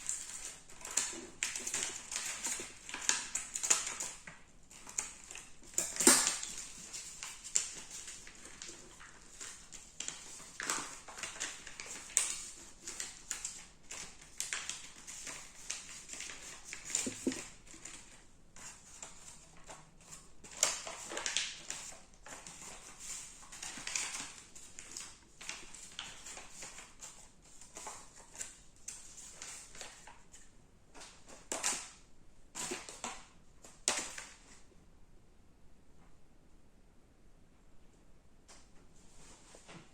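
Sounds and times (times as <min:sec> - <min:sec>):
paper rustling and crackling: 0:00.0 - 0:34.7.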